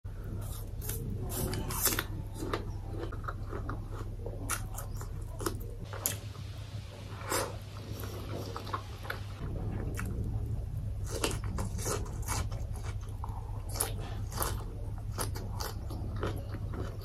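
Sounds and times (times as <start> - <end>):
low steady hum: 0.0 - 17.0
crunchy chewing: 0.1 - 6.3, 7.2 - 17.0.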